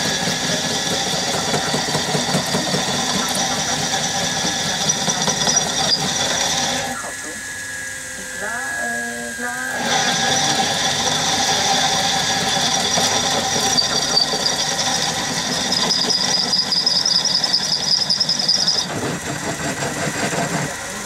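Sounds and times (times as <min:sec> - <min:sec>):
high-pitched machine squeal: 0:00.0 - 0:21.0
lathe running: 0:00.0 - 0:21.0.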